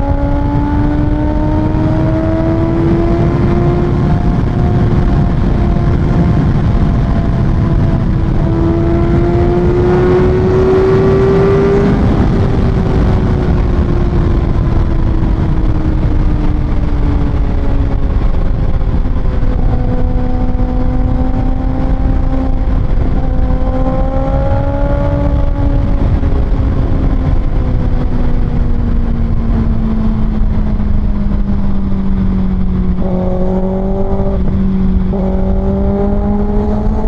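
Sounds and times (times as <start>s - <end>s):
motorcycle engine revving: 0.0s - 37.0s
wind rushing: 0.0s - 37.0s.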